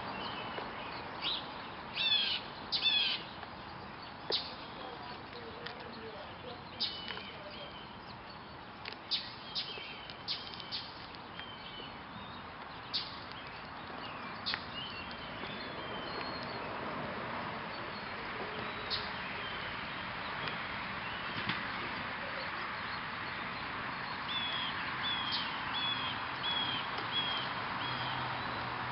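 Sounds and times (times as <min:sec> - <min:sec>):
small birds chirping: 0:00.0 - 0:28.9
steady outdoor hiss: 0:00.0 - 0:28.9.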